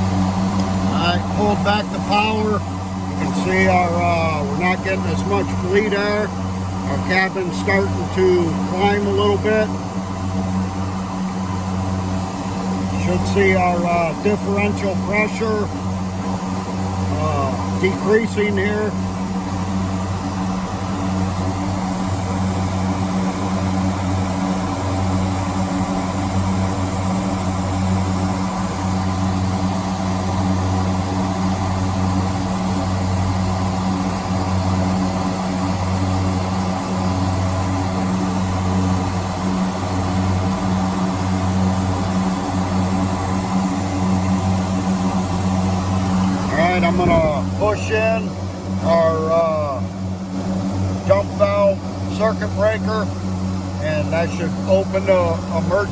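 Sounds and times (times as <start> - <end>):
turboprop engines droning: 0.0 - 55.9.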